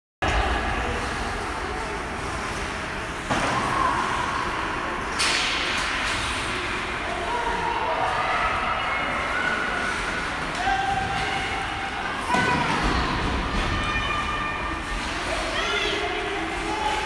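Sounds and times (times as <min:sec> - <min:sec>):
arena crowd murmur: 0:00.2 - 0:17.0.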